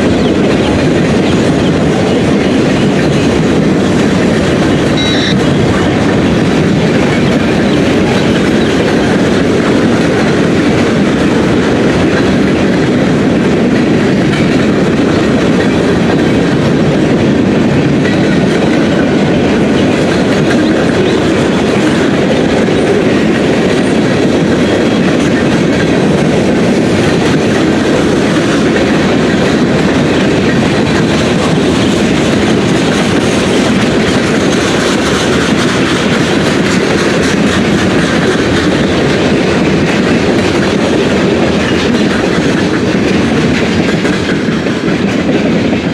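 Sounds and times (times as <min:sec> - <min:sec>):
freight train wheels rumbling on rails: 0:00.0 - 0:45.9.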